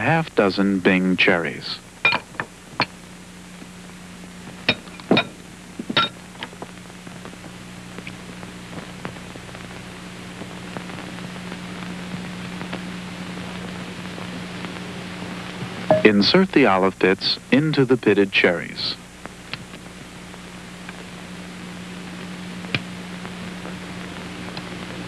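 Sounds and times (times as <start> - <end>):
low hum and hiss: 0.0 - 25.0.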